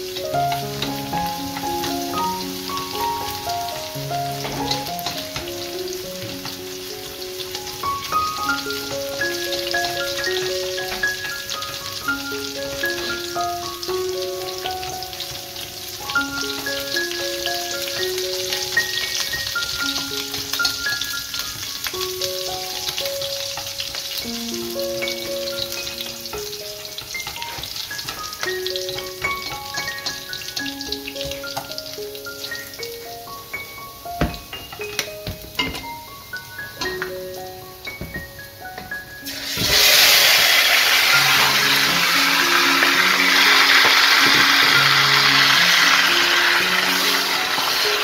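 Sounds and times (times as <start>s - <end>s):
garlic sizzling in hot oil: 0.0s - 48.0s
soft background music: 0.0s - 48.0s.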